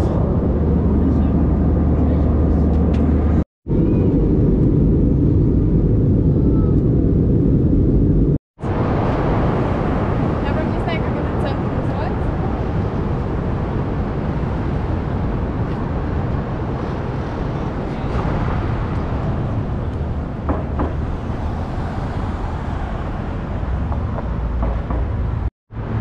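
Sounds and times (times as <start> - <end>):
city traffic: 0.0 - 3.4, 8.6 - 26.0.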